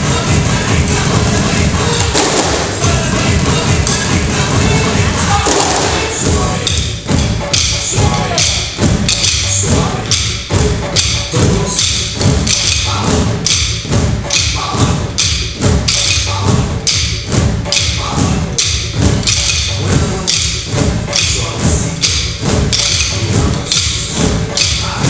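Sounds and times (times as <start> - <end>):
drumsticks beating exercise balls: 0.0 - 25.0
upbeat backing music: 0.0 - 25.0.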